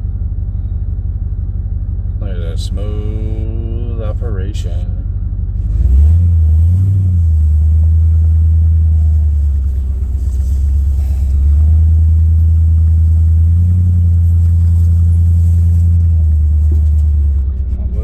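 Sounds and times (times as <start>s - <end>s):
motor running low rumble: 0.0s - 18.0s.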